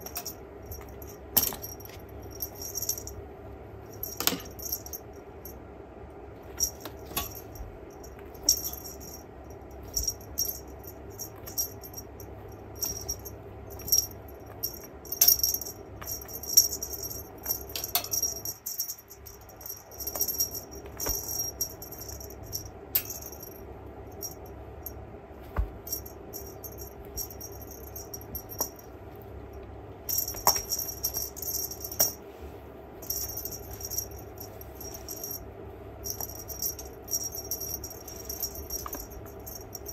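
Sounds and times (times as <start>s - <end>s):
jingling toy rattle: 0.0s - 3.2s, 3.8s - 5.3s, 6.4s - 24.5s, 25.8s - 29.0s, 30.0s - 32.2s, 33.0s - 39.9s.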